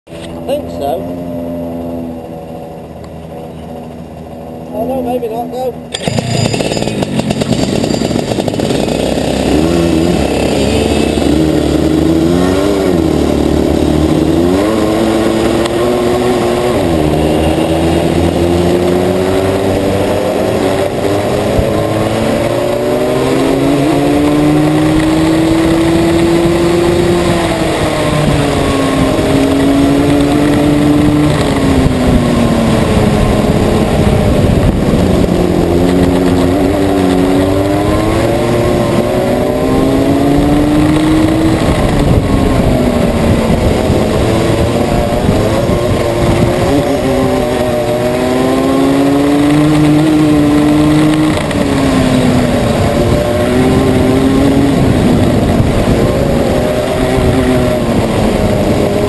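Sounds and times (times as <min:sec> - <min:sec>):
two-stroke kart engine revving: 0:00.1 - 0:59.0.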